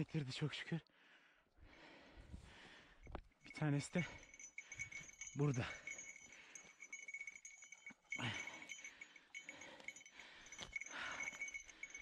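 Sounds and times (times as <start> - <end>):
heavy breaths: 0.9 - 3.2, 4.0 - 12.0.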